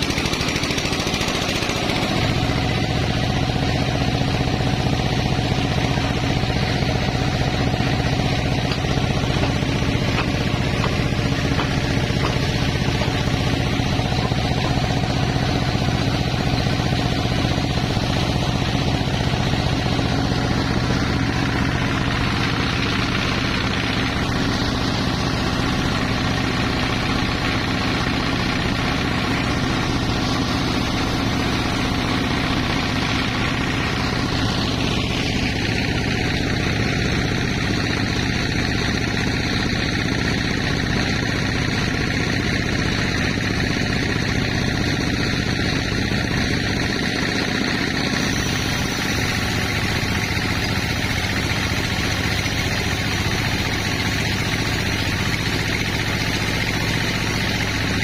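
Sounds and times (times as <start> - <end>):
high saw whine: 0.0 - 58.0
saw motor droning: 0.0 - 58.0.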